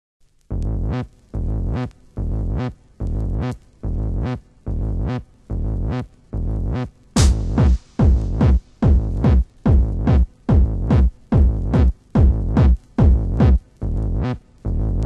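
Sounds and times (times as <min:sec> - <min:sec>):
pulsing synth bass: 0:00.5 - 0:15.0.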